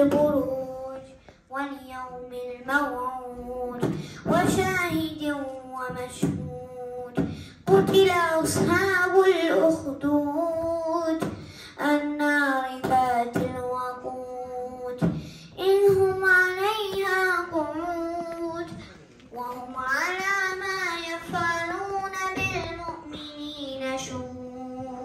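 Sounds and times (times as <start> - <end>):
boy chanting recitation: 0.0 - 25.0.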